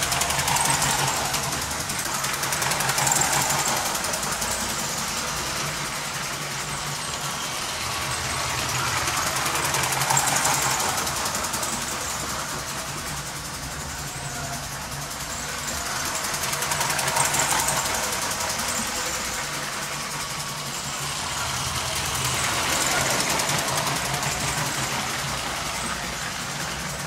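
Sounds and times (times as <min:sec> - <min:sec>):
toy train motor whir: 0:00.0 - 0:27.0
wheels clattering over track joints: 0:00.0 - 0:27.0.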